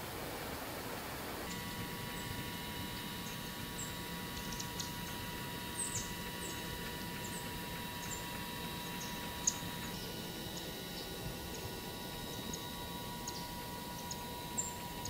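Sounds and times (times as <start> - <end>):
faint hum: 0.0 - 15.0
songbird chip notes: 1.5 - 15.0.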